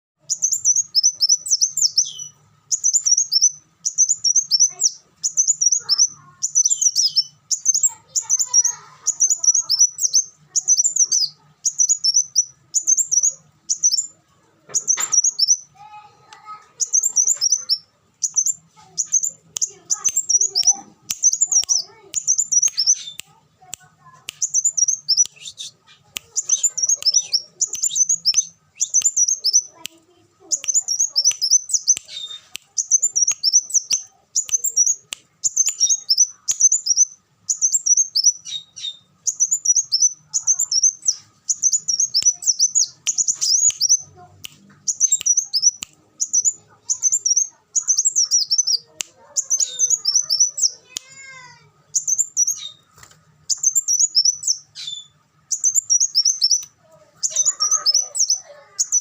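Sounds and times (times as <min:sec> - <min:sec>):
sunbird chirping: 0:00.2 - 0:59.0.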